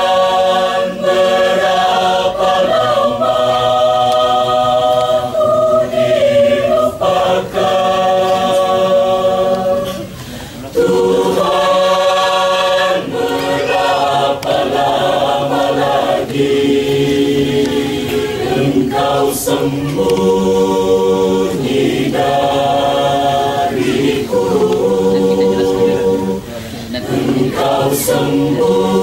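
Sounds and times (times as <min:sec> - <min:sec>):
choir singing a cappella: 0:00.0 - 0:29.0.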